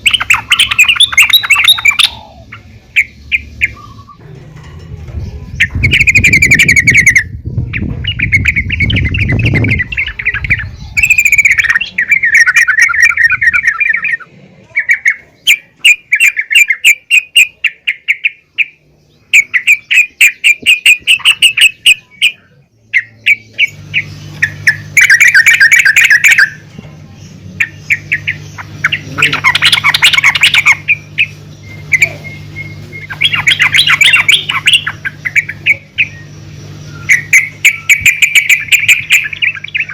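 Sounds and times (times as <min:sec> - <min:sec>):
bird chattering calls: 0:00.0 - 0:04.2, 0:05.1 - 0:39.9
low hum: 0:00.0 - 0:39.9.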